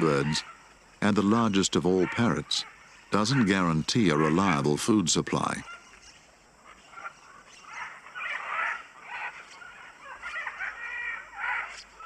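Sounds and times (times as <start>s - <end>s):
macaws squawking: 0.0s - 12.0s.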